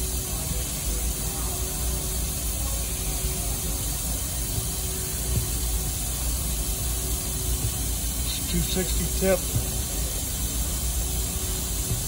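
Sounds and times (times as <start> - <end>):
equipment cooling fans running: 0.0 - 12.0.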